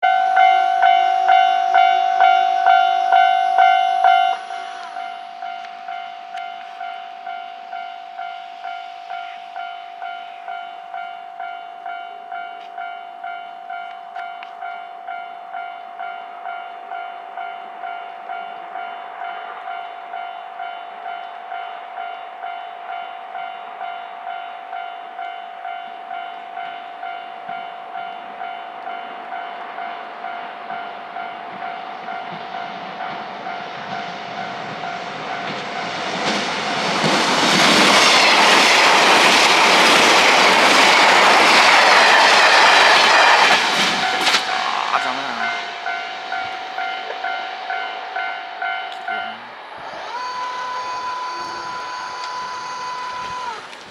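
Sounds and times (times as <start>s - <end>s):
level-crossing warning bell ringing: 0.0s - 53.9s
train passing: 0.0s - 53.9s.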